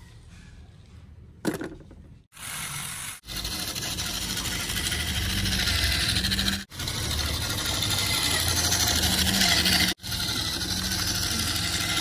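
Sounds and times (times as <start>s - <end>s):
toy truck electric motor whirring: 2.3s - 12.0s.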